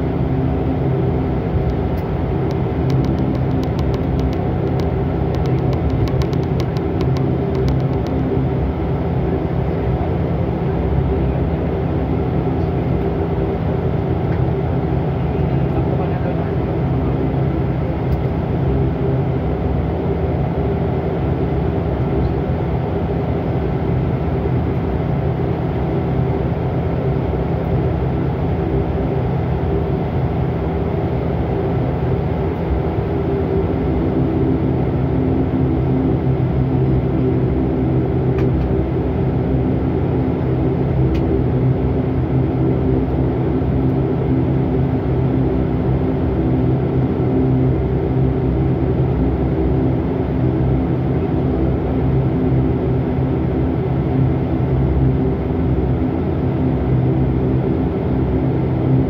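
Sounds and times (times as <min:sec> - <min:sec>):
turboprop engine drone: 0:00.0 - 0:59.0.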